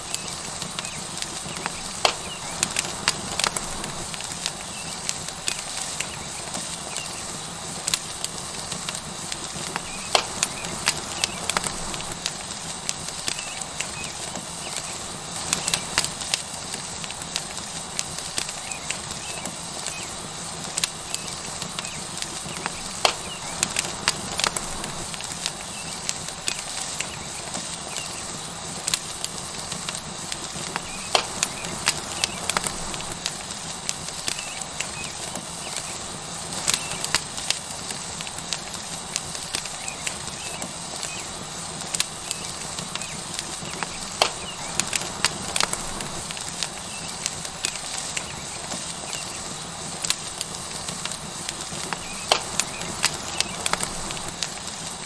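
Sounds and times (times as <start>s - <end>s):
steak sizzling on hot rock: 0.0s - 55.0s
wood fire crackling: 0.0s - 55.0s.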